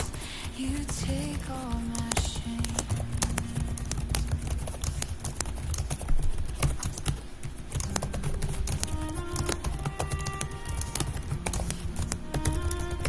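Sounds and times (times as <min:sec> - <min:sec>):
computer keyboard typing: 0:00.0 - 0:13.0
soft background music: 0:00.0 - 0:13.0.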